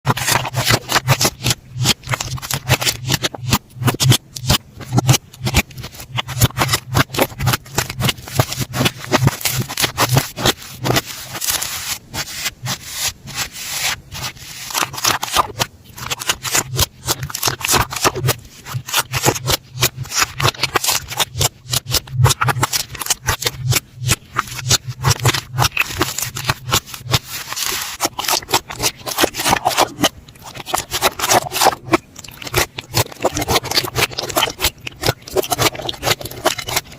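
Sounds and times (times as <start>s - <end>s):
slime crackling and popping: 0.1s - 36.9s.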